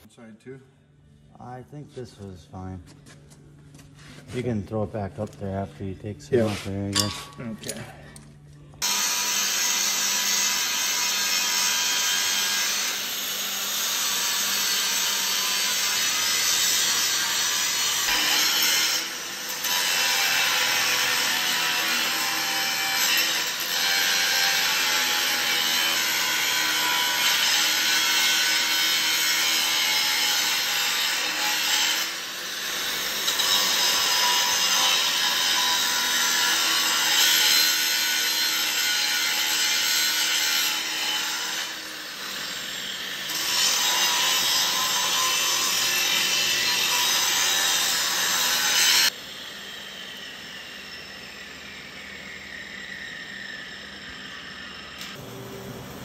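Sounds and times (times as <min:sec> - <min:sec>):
angle grinder grinding steel: 0:08.8 - 0:55.2.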